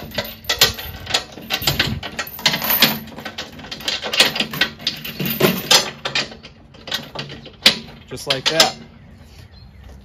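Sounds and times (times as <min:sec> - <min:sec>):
steel chain clinking: 0:00.0 - 0:08.8.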